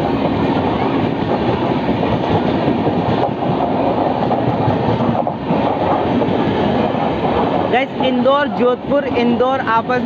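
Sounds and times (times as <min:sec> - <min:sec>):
train wheels rumbling on rails: 0:00.0 - 0:10.0
faint rail joint clacks: 0:00.2 - 0:08.8.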